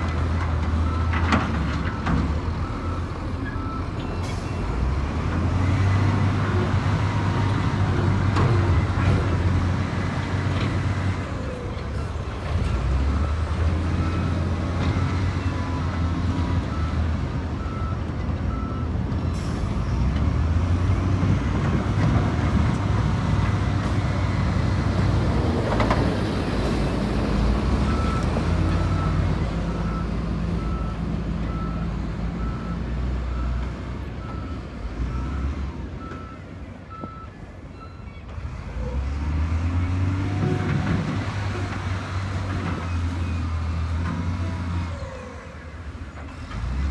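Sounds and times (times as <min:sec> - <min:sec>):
bulldozer diesel engine: 0:00.0 - 0:46.9.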